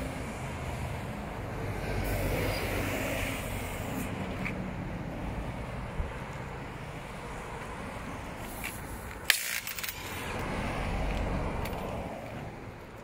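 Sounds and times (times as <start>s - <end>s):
road traffic rumbling: 0.0s - 13.0s.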